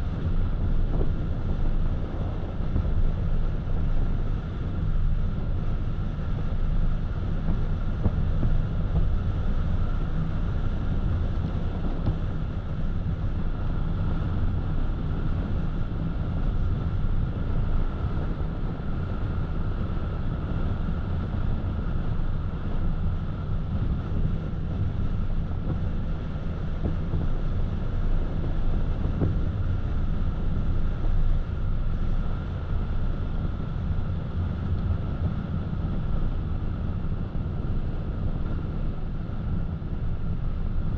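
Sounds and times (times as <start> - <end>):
wind: 0.0 - 40.9.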